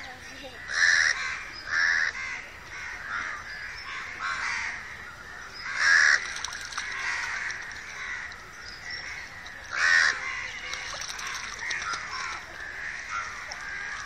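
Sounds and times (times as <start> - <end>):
crows cawing: 0.6 - 5.0, 5.6 - 8.4, 9.0 - 14.0.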